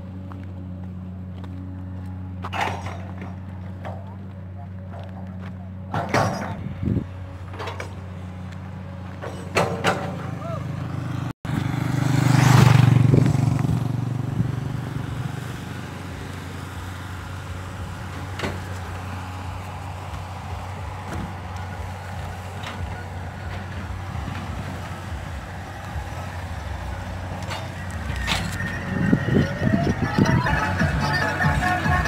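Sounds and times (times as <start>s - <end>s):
diesel truck engines idling: 0.0s - 32.0s
motorcycle passing: 0.0s - 32.0s.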